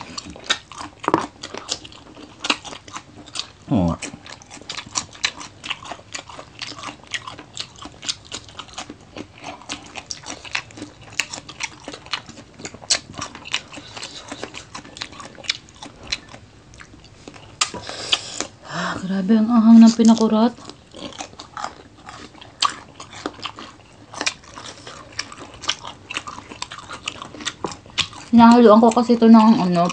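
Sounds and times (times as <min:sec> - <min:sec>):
crunchy chewing: 0:00.0 - 0:18.6, 0:19.8 - 0:29.9.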